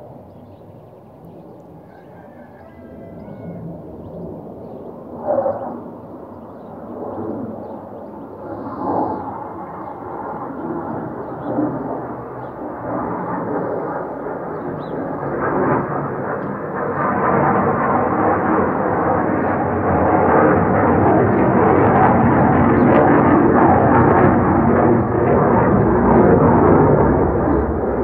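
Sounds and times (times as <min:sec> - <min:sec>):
aircraft engine drone: 0:00.0 - 0:28.0.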